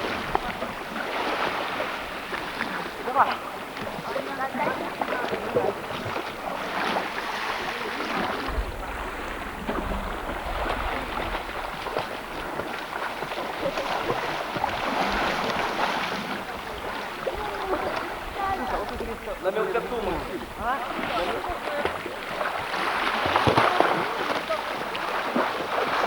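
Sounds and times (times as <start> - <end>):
sea water splashing: 0.0 - 26.0
waves washing: 0.0 - 26.0
wind buffeting microphone: 0.0 - 26.0.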